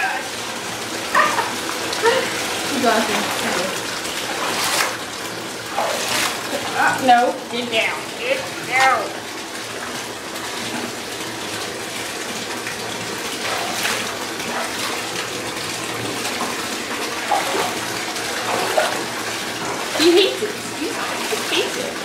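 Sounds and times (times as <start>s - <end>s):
water pouring into bathtub: 0.0s - 22.0s.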